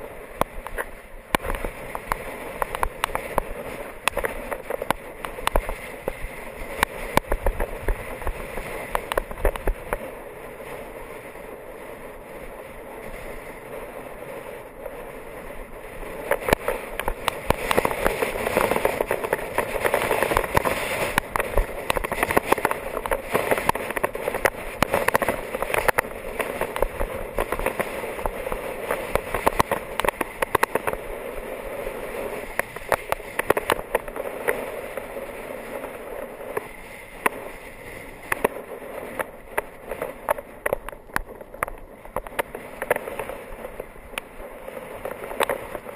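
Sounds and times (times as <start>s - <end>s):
sharp crackles: 0.0s - 45.9s
tyre noise on tarmac: 0.0s - 45.9s
wind rushing over microphone: 0.0s - 45.9s.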